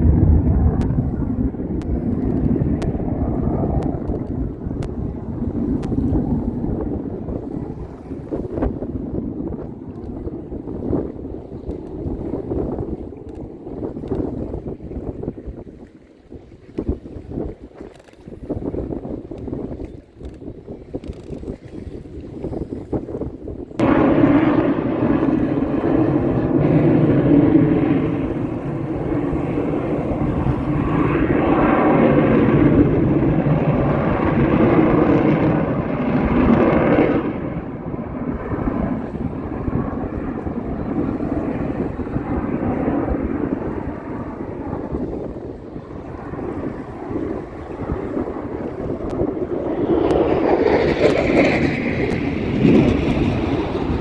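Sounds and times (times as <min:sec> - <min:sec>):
jet aircraft roar passing over: 0:00.0 - 0:14.9, 0:23.7 - 0:54.0.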